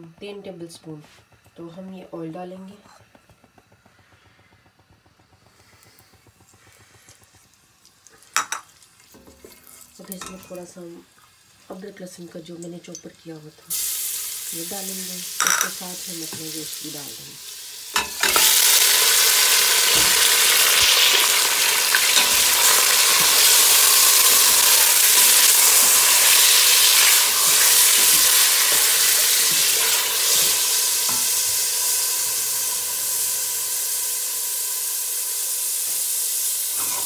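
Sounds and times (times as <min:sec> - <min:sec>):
meat sizzling in hot oil: 0:03.1 - 0:37.0.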